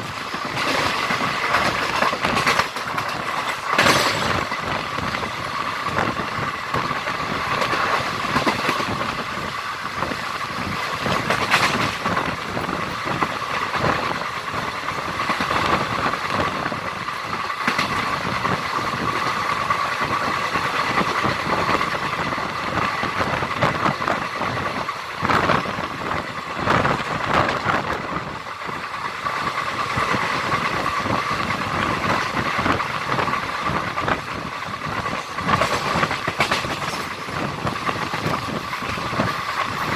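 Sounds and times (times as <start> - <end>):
rush of wind: 0.0 - 39.9
train wheels on rails: 0.0 - 39.9.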